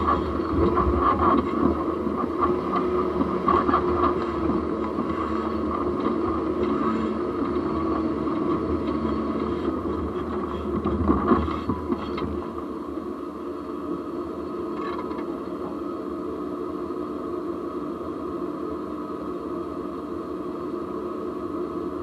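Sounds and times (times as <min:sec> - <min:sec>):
road tyre and wind noise: 0:00.0 - 0:22.0.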